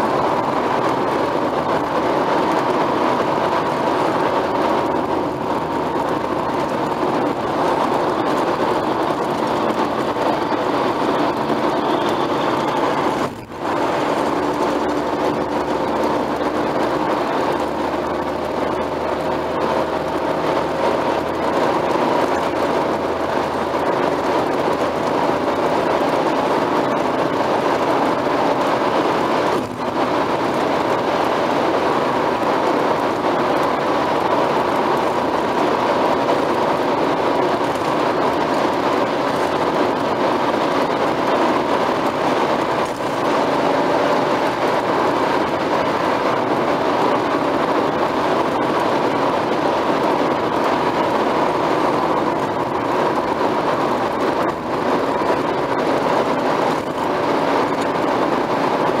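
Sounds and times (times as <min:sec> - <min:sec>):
tyre and road noise in car: 0:00.0 - 0:59.0.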